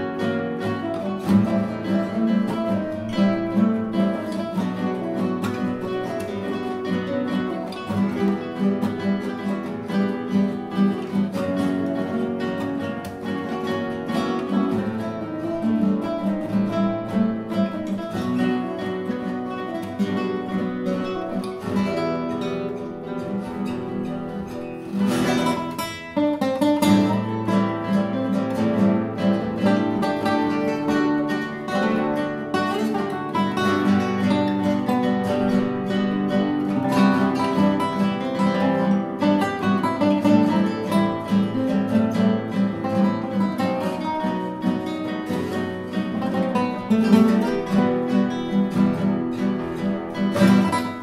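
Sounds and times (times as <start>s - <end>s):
classical guitar ensemble: 0.0s - 51.0s.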